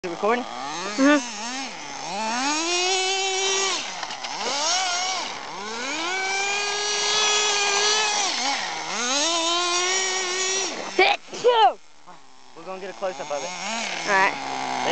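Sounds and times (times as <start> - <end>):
small two-stroke engine revving: 0.0 - 14.9.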